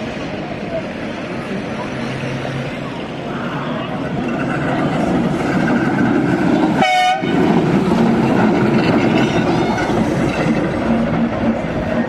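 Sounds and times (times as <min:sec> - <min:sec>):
tram wheels clattering on rails: 0:00.0 - 0:12.0.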